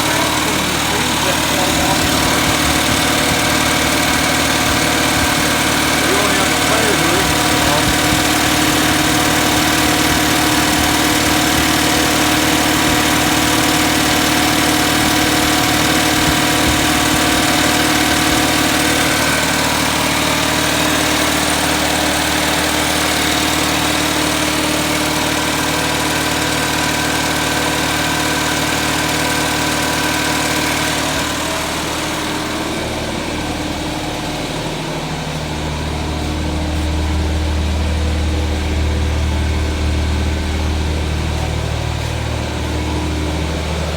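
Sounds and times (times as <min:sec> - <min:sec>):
deep hum: 0:00.0 - 0:22.6, 0:30.1 - 0:43.9
car engine idling: 0:00.0 - 0:43.9.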